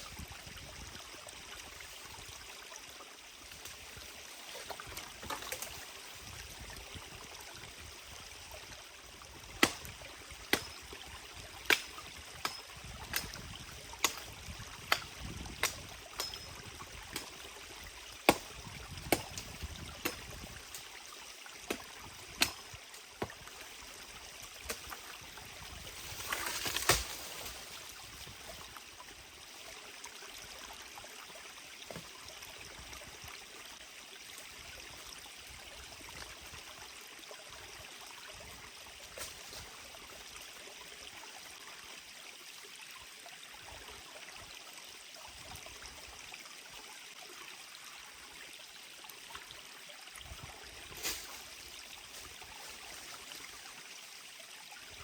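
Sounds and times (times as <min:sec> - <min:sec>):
forest stream running: 0:00.0 - 0:55.0.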